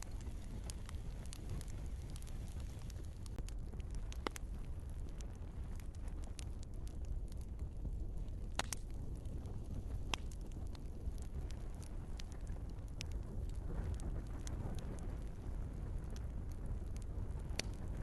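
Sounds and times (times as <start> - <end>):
logs crackling and popping: 0.0 - 18.0
low rumble of fire: 0.0 - 18.0.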